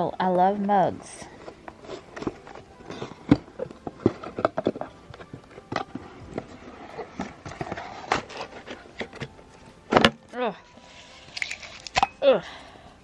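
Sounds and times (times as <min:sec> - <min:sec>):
objects being handled: 0:00.0 - 0:13.0.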